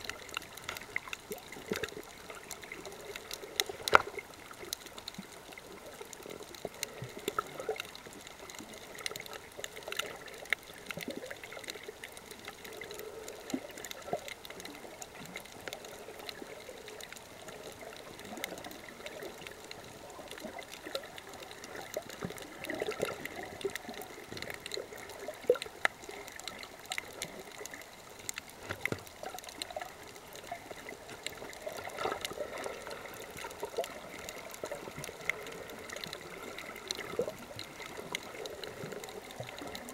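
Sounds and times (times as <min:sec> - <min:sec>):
sharp clicks and crackles: 0:00.0 - 0:39.9
underwater gurgling water: 0:00.0 - 0:39.9.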